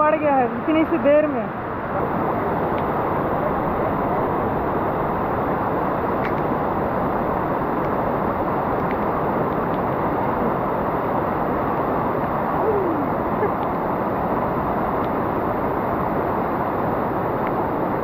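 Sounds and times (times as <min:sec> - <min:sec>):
stream rushing over rocks: 0:00.5 - 0:18.0.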